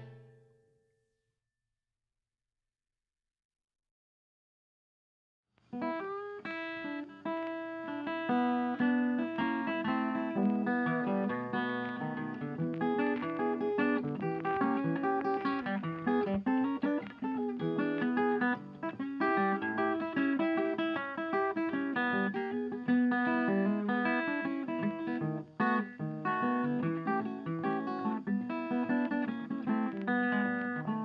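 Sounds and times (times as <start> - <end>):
guitar plucked notes: 0.0 - 0.8, 5.8 - 31.0.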